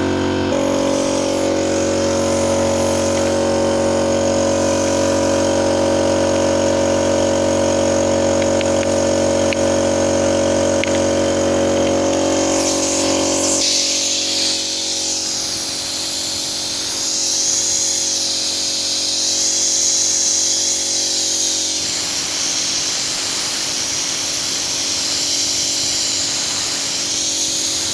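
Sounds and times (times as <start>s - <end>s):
loud steady hiss: 0.0s - 27.9s
machine humming: 0.0s - 27.9s.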